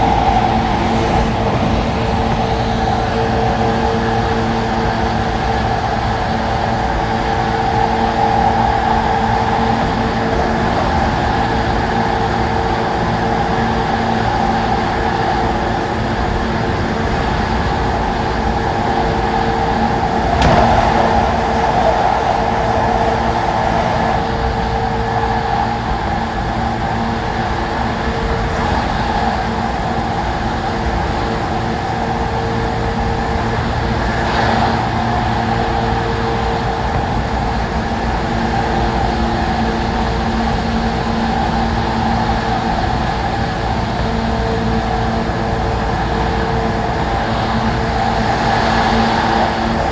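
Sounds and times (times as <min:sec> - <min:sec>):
electric train interior hum: 0:00.0 - 0:49.9
train running noise: 0:00.0 - 0:49.9.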